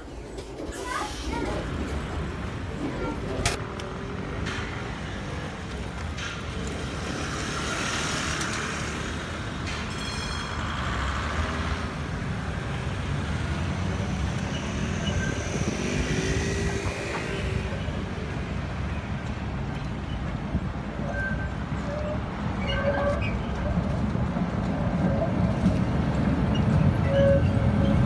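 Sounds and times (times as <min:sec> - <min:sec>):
city street traffic rumble: 0:00.0 - 0:28.0.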